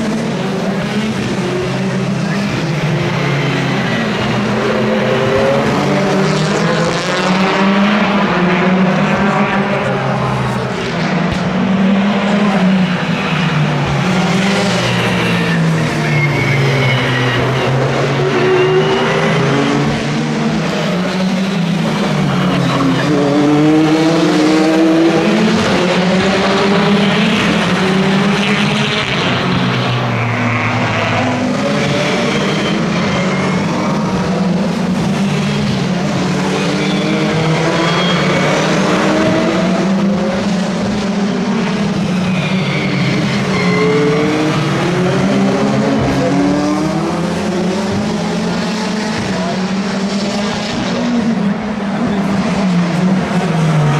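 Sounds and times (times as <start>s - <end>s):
racing car engines revving: 0.0s - 53.9s.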